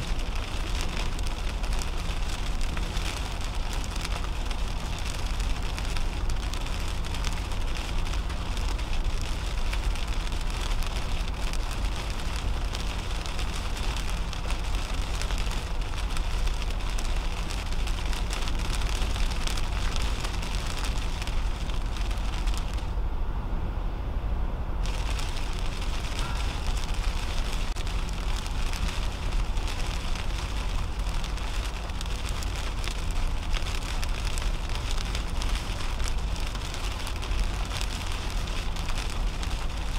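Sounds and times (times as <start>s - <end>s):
rain pattering on car windshield: 0.0s - 23.0s, 24.8s - 39.9s
tyres rumbling on wet road: 0.0s - 39.9s.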